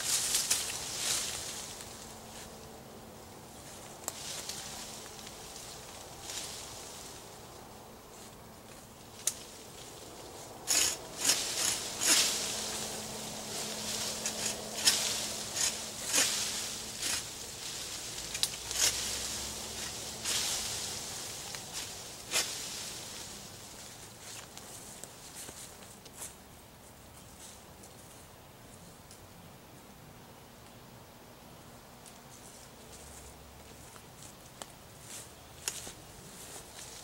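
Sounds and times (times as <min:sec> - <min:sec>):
leafy branches rustling: 0:00.0 - 0:29.4, 0:31.6 - 0:37.0.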